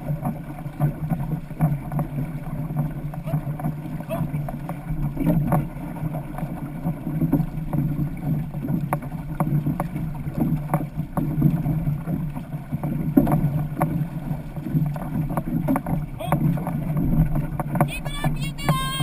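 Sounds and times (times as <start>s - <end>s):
paddles splashing: 0.0s - 19.0s
water rushing along hull: 0.0s - 19.0s.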